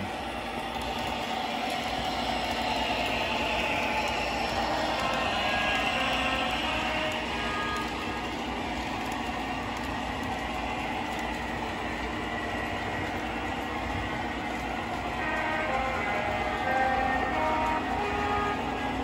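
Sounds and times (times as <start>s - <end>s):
model trains running on track: 0.0s - 19.0s.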